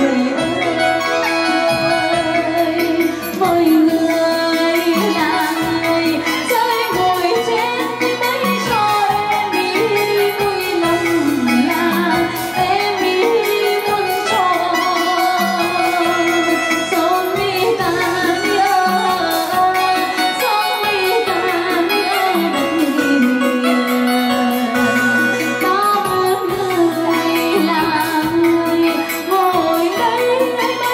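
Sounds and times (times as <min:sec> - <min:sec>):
backing music with steady beat: 0:00.0 - 0:30.9
woman singing folk song: 0:00.0 - 0:30.9.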